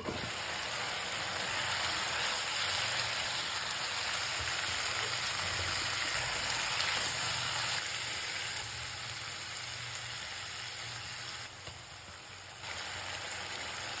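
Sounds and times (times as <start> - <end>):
food sizzling in pan: 0.0 - 14.0.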